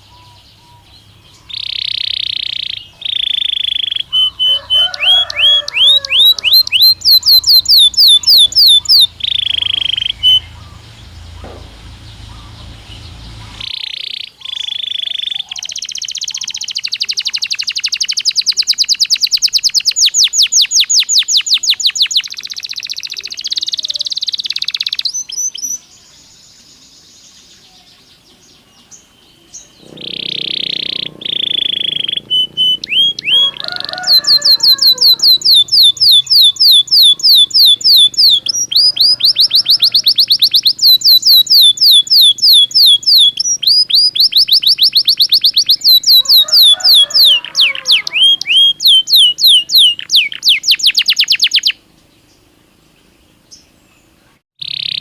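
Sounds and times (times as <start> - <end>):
canary singing trills: 0.0 - 52.5, 53.1 - 55.0.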